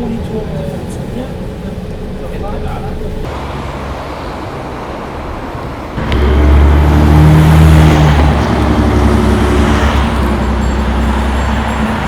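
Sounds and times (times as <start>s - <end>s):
bus diesel engine pulling away: 0.0s - 12.0s.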